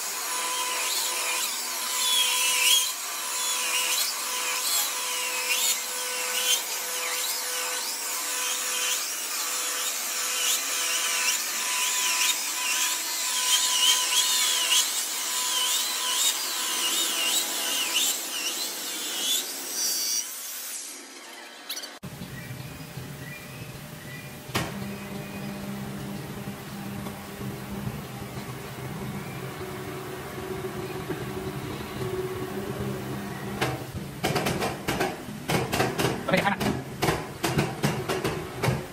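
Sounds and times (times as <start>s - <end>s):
electric saw cutting wood: 0.0s - 22.1s, 23.8s - 35.0s.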